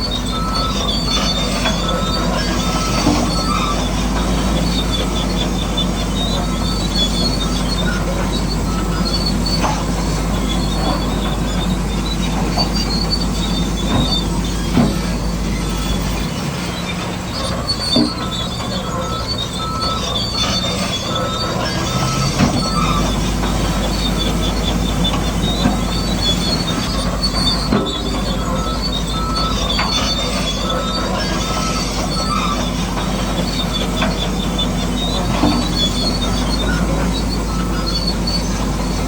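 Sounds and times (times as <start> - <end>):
gears and tracks squealing: 0.0 - 39.0.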